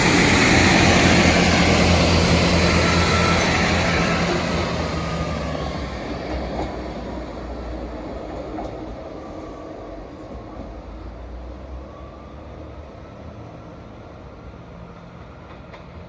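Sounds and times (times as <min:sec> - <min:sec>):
rail and wheel noise: 0:00.0 - 0:16.0
train engine drone: 0:00.0 - 0:16.0.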